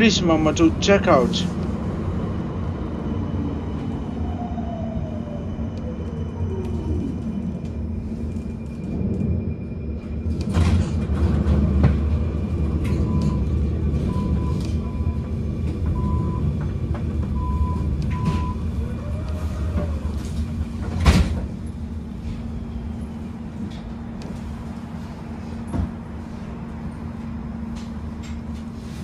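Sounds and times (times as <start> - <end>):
tram rumbling: 0.0 - 29.0.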